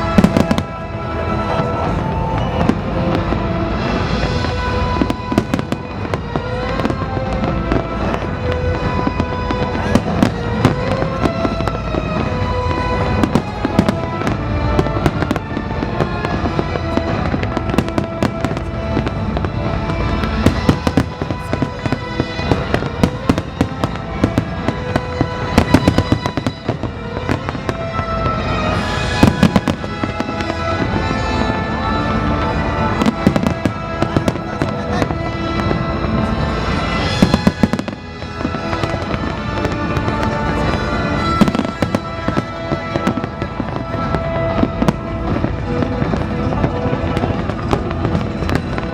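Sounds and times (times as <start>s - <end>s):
fireworks bangs and crackles: 0.0s - 48.9s
loud music playing: 0.0s - 48.9s.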